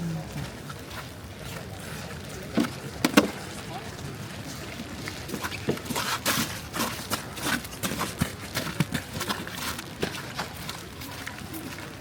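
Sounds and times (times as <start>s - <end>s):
city street noise: 0.0s - 12.0s
footsteps on pavement: 0.4s - 12.0s.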